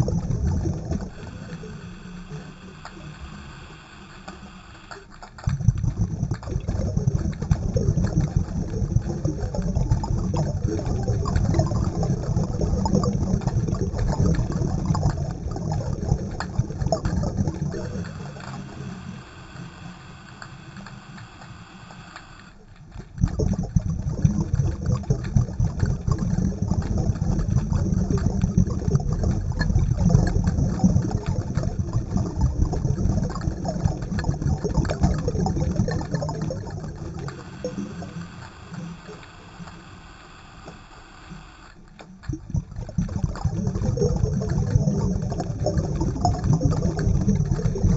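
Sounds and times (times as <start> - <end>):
faint steady tones: 0.0 - 47.9
underwater rumble with crackle: 0.0 - 47.9.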